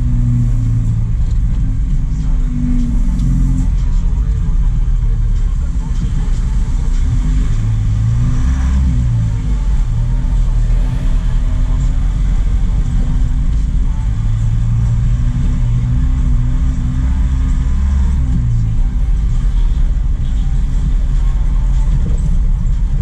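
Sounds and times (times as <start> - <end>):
road noise rushing: 0.0 - 23.0
truck engine running: 0.0 - 23.0.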